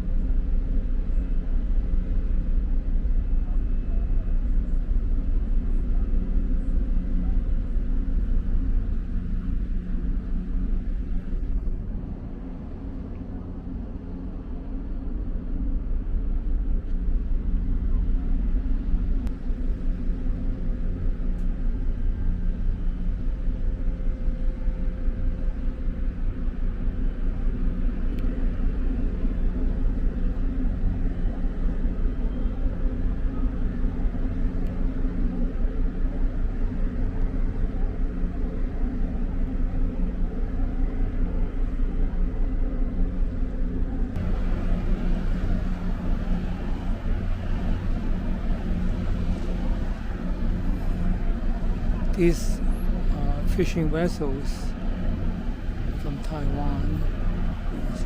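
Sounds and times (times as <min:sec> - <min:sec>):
engine rumble: 0:00.0 - 0:58.0.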